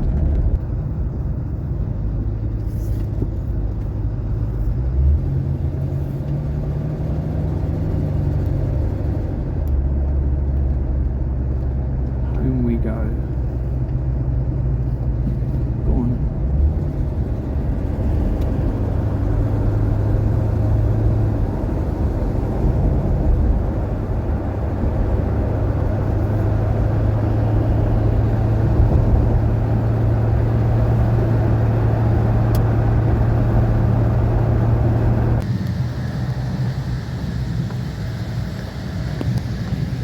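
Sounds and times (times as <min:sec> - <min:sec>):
car engine hum: 0:00.0 - 0:40.0
road noise: 0:00.0 - 0:40.0.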